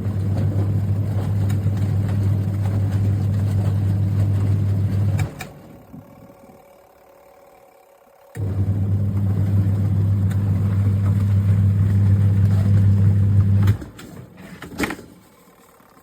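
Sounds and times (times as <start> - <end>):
washing machine motor humming: 0.0 - 14.6.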